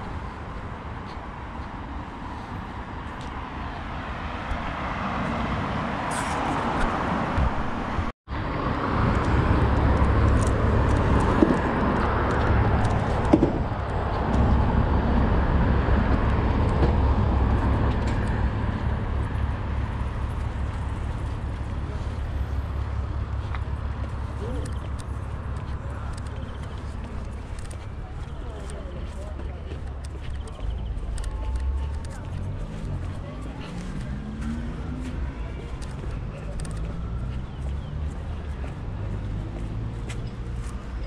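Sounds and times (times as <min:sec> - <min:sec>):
cars passing: 0:00.0 - 0:41.0.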